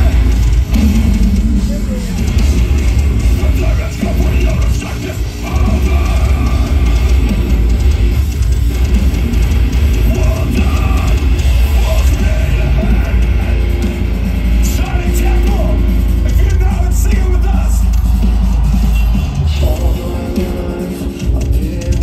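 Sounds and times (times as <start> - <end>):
bass guitar: 0.0 - 22.0
distorted electric guitars: 0.0 - 22.0
pounding drum kit: 0.0 - 22.0.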